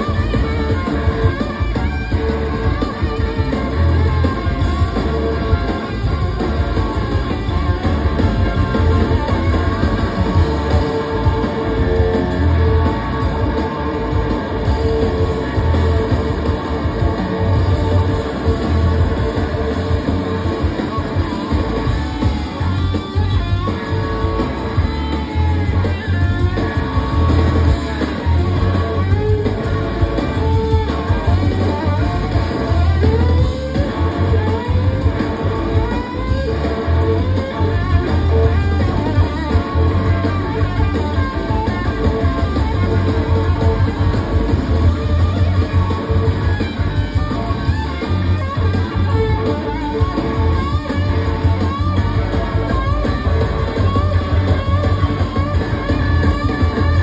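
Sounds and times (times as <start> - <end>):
drums: 0.0 - 57.0
electric slide guitar solo: 0.0 - 57.0.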